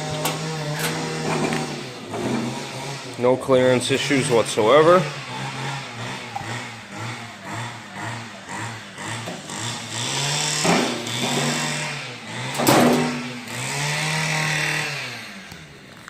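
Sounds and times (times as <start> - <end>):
electric power tool running: 0.0 - 16.0.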